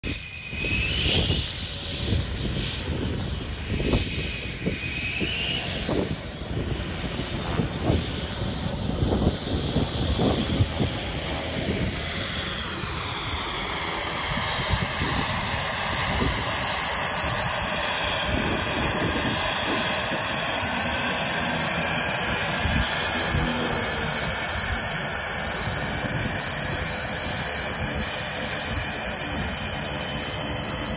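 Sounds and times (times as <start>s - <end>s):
turboprop engine whine: 0.0s - 30.9s
uneven rushing noise: 1.1s - 30.9s.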